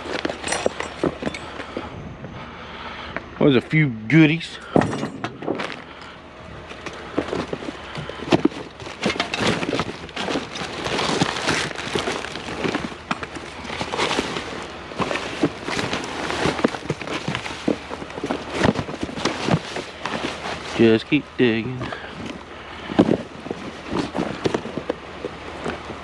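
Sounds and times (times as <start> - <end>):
items clinking and knocking: 0.0 - 1.8, 4.6 - 5.9, 6.7 - 21.1, 21.7 - 26.0
rustling and crackling: 0.0 - 1.9, 4.6 - 26.0.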